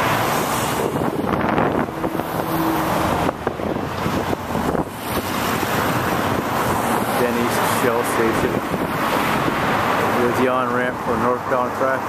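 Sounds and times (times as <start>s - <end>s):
wind buffeting microphone: 0.0s - 11.2s
road traffic rumble: 0.0s - 12.0s.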